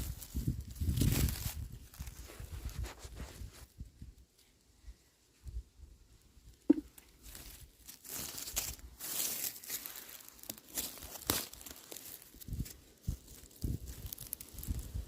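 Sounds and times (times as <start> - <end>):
moss and undergrowth rustling: 0.0 - 15.0.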